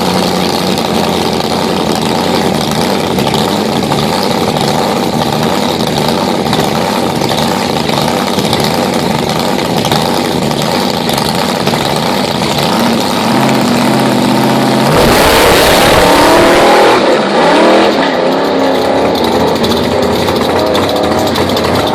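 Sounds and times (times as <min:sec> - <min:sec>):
drag car engine revving: 0:00.0 - 0:21.9.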